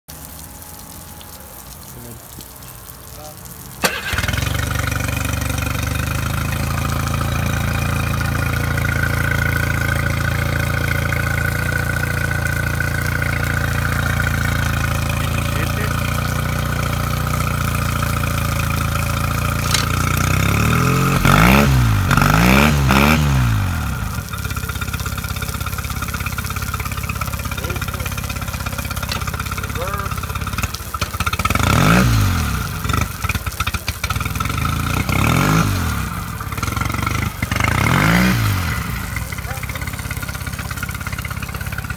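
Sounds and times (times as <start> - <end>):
outboard engine idling and revving: 3.8 - 41.9.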